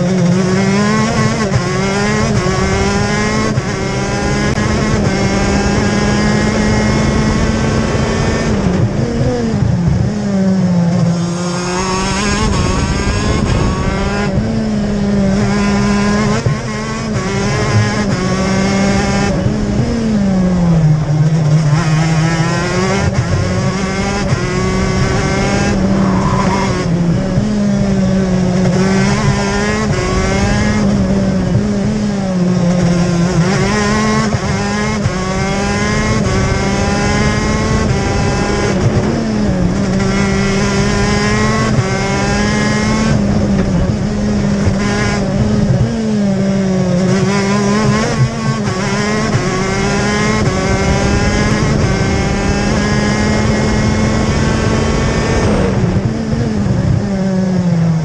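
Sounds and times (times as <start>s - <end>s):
kart engine revving through gears: 0.0s - 58.0s.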